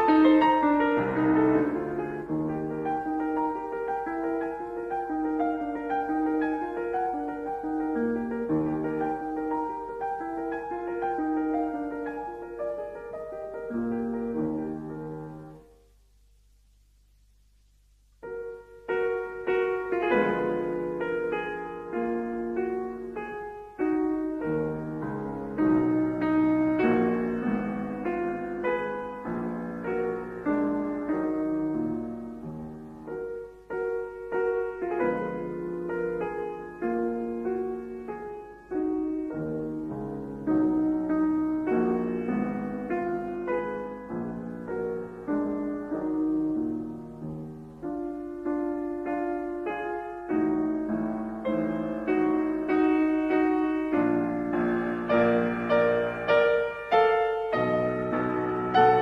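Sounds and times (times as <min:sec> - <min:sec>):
slow piano chords: 0:00.0 - 0:59.0.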